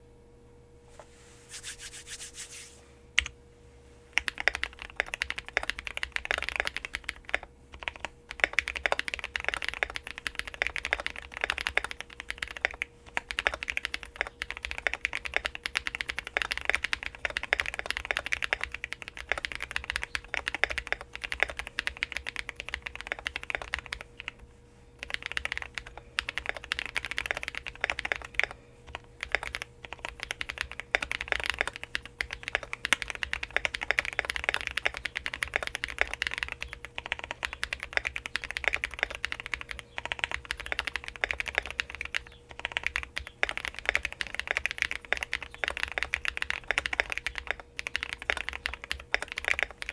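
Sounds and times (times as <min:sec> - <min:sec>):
mechanical keyboard typing: 0:04.2 - 0:24.4, 0:25.0 - 0:49.9.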